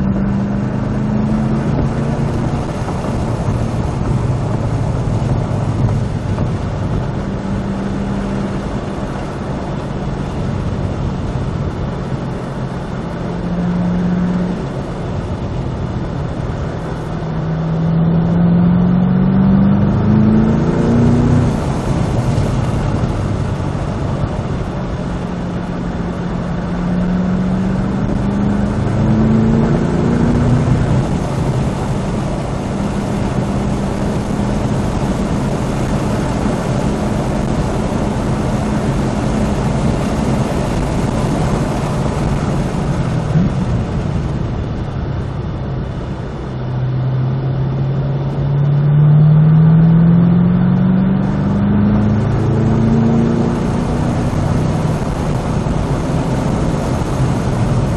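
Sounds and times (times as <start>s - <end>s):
car engine accelerating: 0.0s - 57.9s
road and wind noise: 0.0s - 57.9s.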